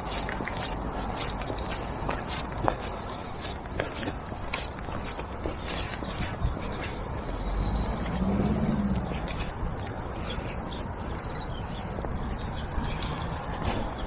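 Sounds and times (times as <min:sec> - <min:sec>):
birds chirping: 0:00.0 - 0:14.0
low background rumble: 0:00.0 - 0:14.0.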